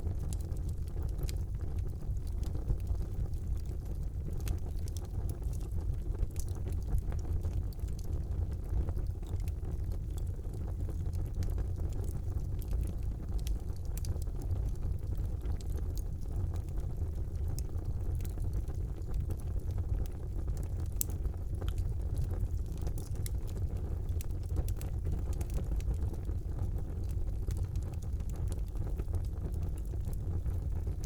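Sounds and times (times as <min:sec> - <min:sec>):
fire crackling and popping: 0:00.0 - 0:31.0
fire flames rumbling: 0:00.0 - 0:31.0.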